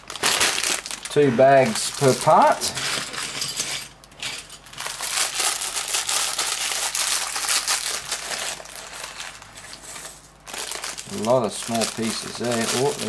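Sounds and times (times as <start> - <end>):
plastic bag crinkling: 0.0 - 3.6, 4.2 - 13.0.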